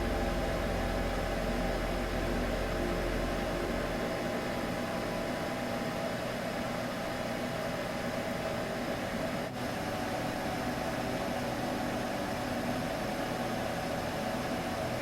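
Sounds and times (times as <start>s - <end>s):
constant hum: 0.0s - 15.0s
white noise: 0.0s - 15.0s.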